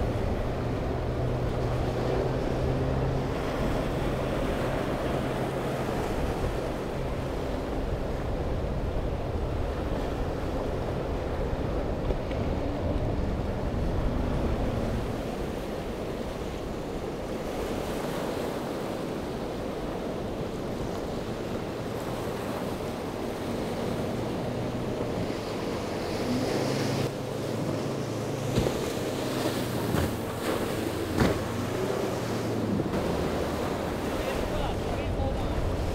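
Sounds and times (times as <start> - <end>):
outboard motor running: 0.0 - 35.9
waves breaking: 0.0 - 35.9.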